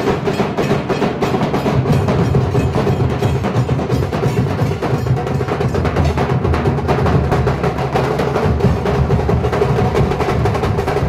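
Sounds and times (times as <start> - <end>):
barrel drums beaten with sticks: 0.0 - 11.0.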